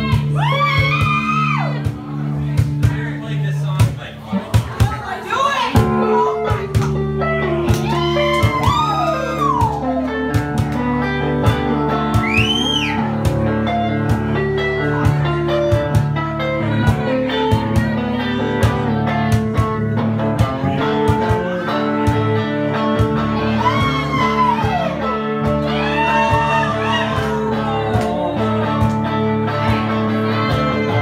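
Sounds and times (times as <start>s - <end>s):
blues band playing: 0.0s - 31.0s
lead guitar bending notes: 5.7s - 31.0s.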